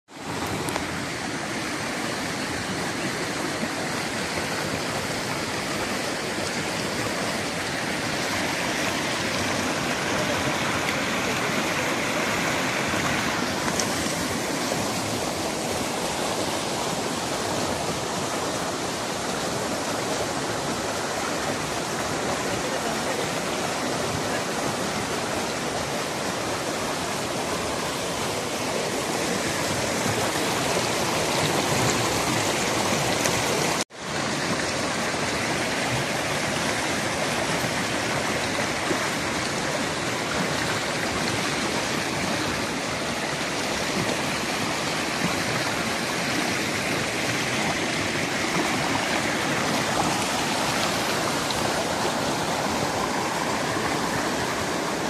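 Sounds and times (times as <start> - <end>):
stream rushing over rocks: 0.1 - 55.0.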